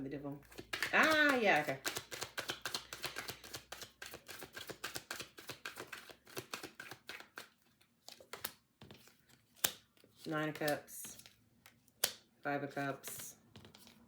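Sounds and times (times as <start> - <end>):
cards being shuffled: 0.4 - 14.0.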